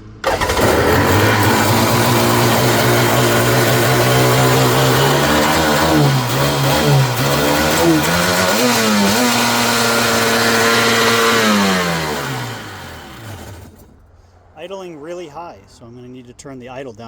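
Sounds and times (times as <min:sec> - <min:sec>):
two-stroke engine running: 0:00.0 - 0:13.9.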